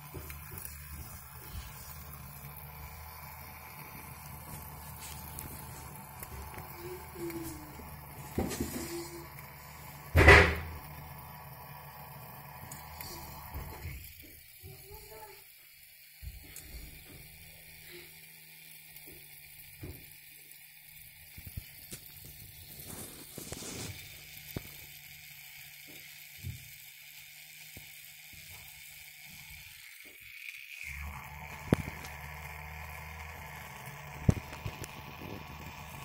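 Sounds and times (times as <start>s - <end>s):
small motor high whine: 0.0s - 36.0s.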